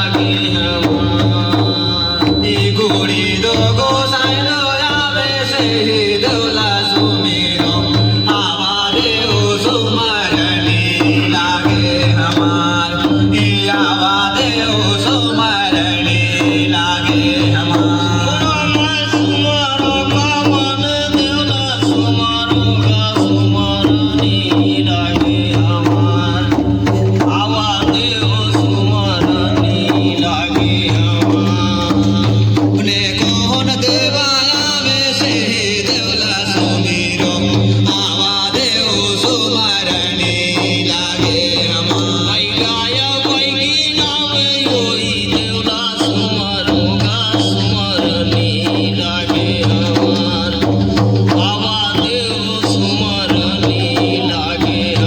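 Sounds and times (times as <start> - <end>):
drums keeping an even beat: 0.0 - 55.0.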